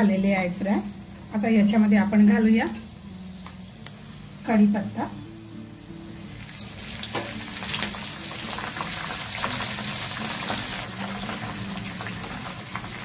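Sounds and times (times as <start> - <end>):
leaves sizzling in hot oil: 2.2 - 13.0.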